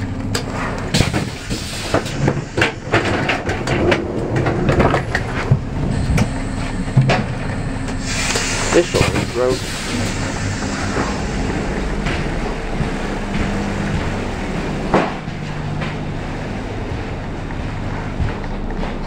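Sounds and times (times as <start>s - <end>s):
train carriage hum: 0.0s - 19.0s.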